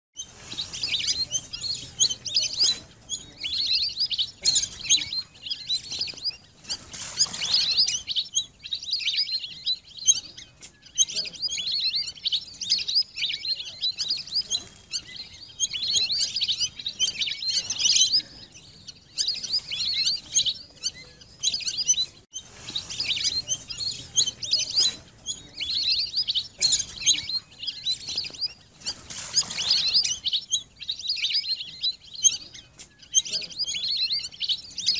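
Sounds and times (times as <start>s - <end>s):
ducks whistling calls: 0.2s - 34.9s.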